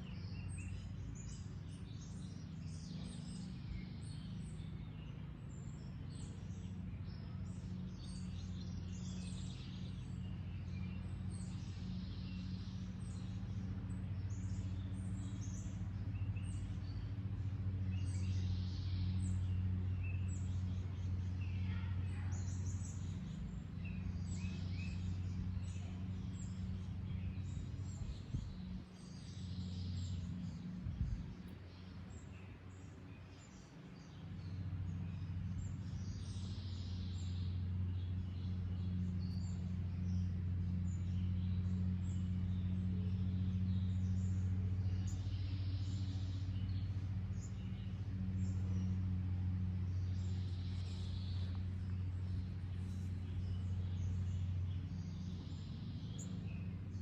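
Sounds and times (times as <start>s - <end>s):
birds chirping: 0.0s - 57.0s
steady low hum: 0.0s - 57.0s.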